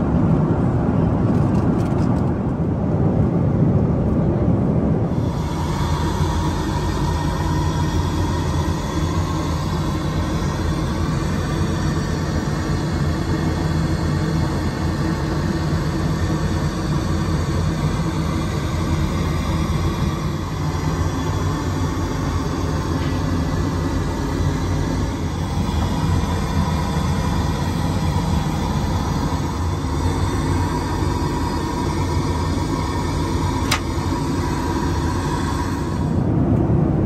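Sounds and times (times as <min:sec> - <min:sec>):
airliner cabin engine drone: 0:00.0 - 0:37.0.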